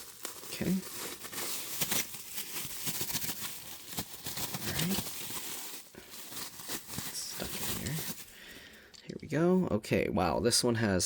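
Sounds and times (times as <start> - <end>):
bubble wrap crinkling: 0.0 - 9.0.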